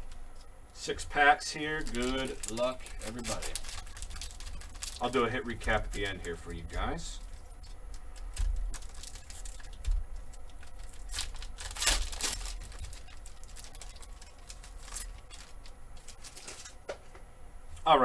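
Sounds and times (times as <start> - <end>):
foil wrapper crinkling: 1.0 - 16.9.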